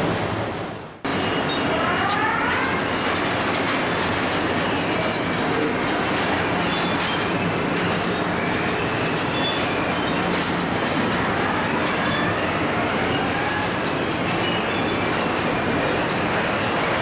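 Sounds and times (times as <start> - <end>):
clanks and clicks: 1.4 - 17.0.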